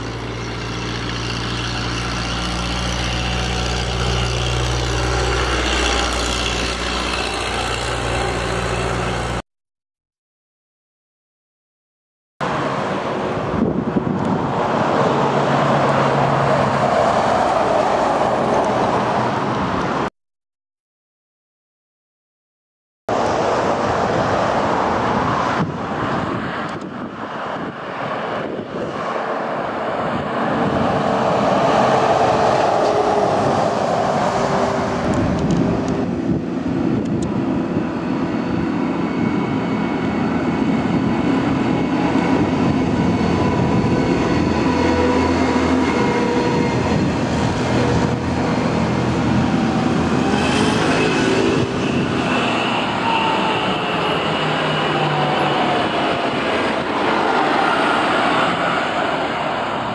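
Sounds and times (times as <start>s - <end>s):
cars passing: 0.0s - 9.4s, 12.4s - 20.1s, 23.1s - 59.9s
excavator diesel engine with whine: 0.0s - 9.4s, 12.4s - 20.1s, 23.1s - 59.9s.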